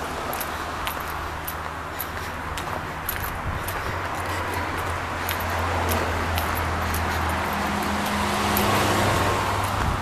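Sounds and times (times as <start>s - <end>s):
footsteps on paved trail: 0.0s - 10.0s
road traffic rushing: 0.0s - 10.0s
vehicle passing: 0.0s - 10.0s.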